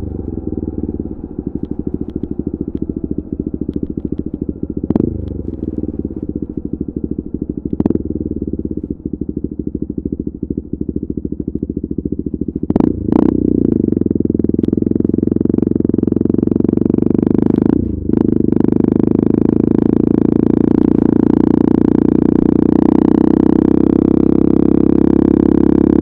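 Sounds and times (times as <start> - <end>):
motorcycle engine pulsing exhaust: 0.0 - 26.0.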